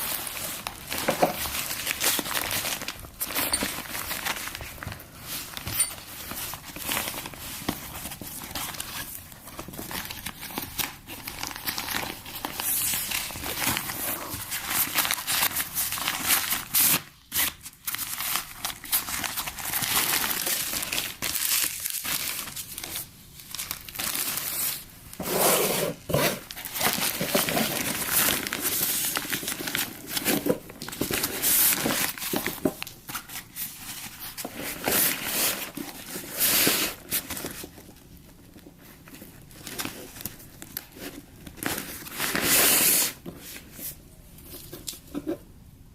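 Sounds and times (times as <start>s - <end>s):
packaging crinkling and rustling: 0.0s - 45.2s.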